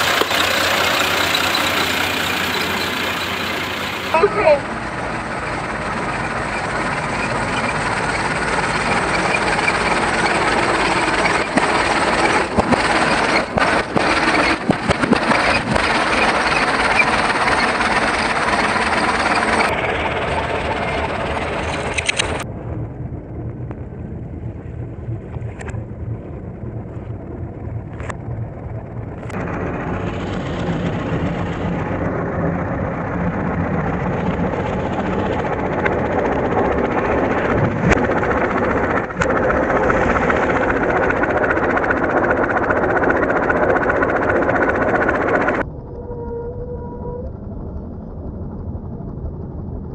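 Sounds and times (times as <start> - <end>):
tractor engine running: 0.0 - 22.4, 25.1 - 46.0.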